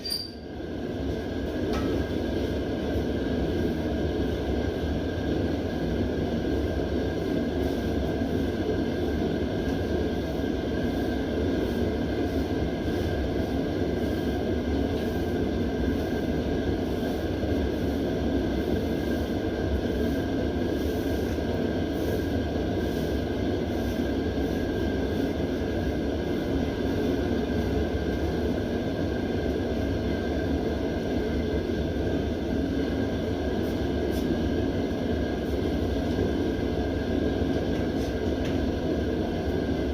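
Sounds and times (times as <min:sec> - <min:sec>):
propane heater hissing: 0:00.0 - 0:39.9.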